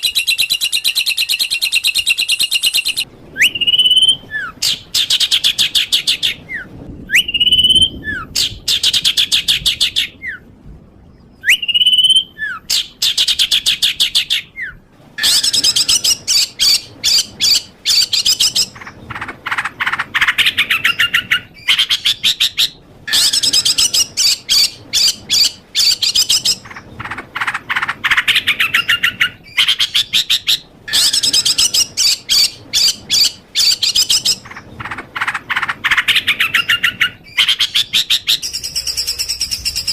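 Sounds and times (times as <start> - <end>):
songbird whistles and trills: 0.0 - 10.5, 11.2 - 39.9.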